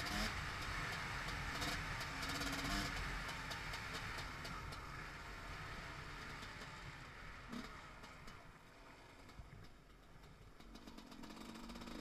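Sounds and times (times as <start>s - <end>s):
motorcycle engine easing to idle: 0.0s - 12.0s.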